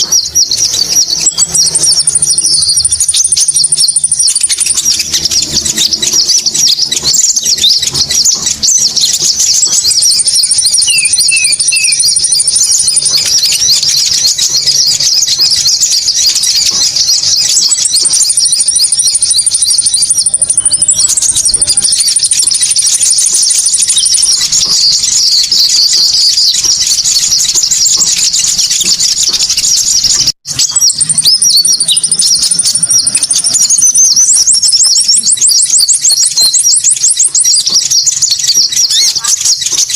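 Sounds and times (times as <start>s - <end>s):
birds chirping and trilling: 0.0s - 39.9s
steady high bird trills: 0.0s - 39.9s.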